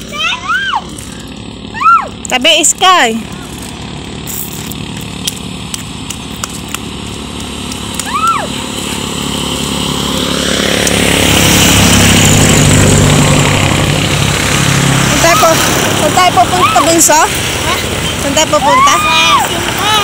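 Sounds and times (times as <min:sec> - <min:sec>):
vehicle engine passing: 0:00.0 - 0:20.0.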